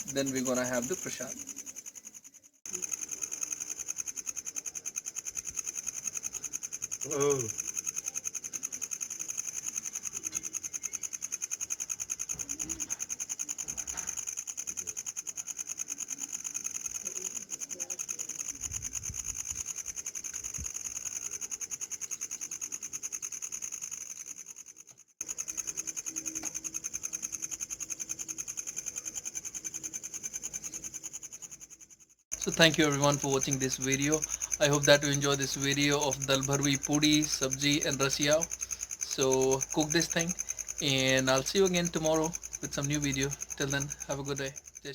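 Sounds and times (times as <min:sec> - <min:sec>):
small metal bell ringing rapidly: 0:00.0 - 0:44.9.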